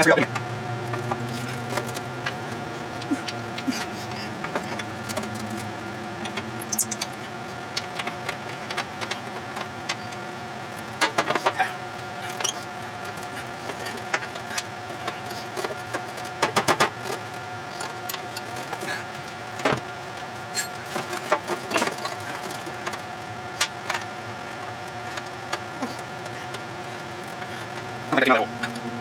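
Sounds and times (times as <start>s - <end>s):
steady mechanical hum: 0.0s - 29.0s.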